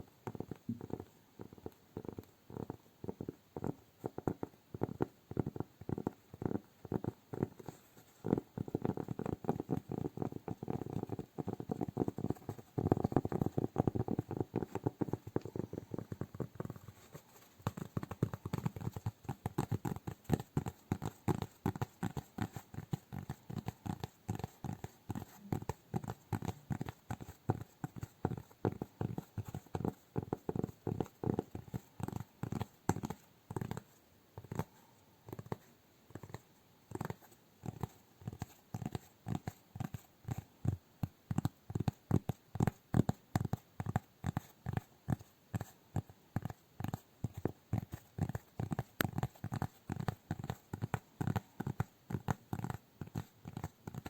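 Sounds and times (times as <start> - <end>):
hands tapping rhythmically: 0.0 - 54.0.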